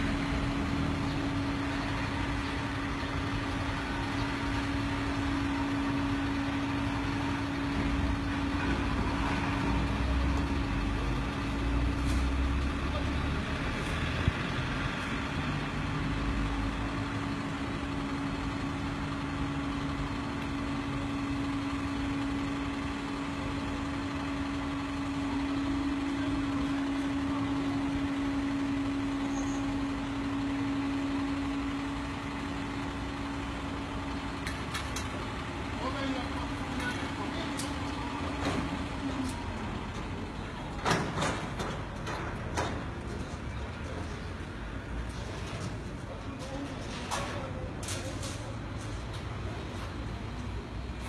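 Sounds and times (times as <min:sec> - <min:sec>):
street noise: 0:00.0 - 0:51.0
vehicle engine idling: 0:00.0 - 0:51.0.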